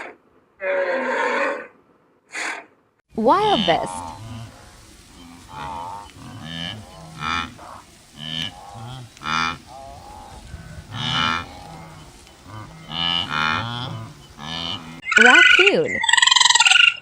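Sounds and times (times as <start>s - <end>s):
wildebeest grunting and honking: 3.3s - 17.0s.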